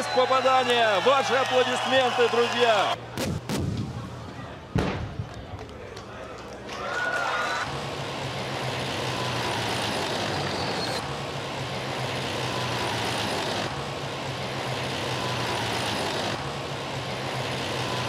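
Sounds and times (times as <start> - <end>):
tank engines driving fast: 0.0 - 3.1, 6.2 - 18.0.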